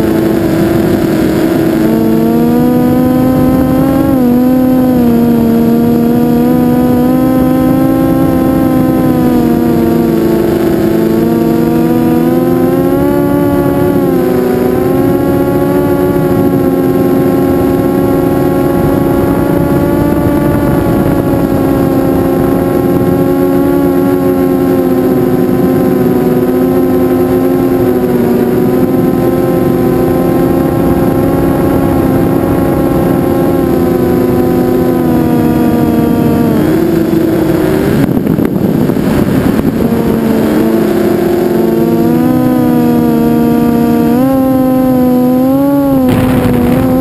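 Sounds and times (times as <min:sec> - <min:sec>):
model aircraft motors whining: 0:00.0 - 0:47.0.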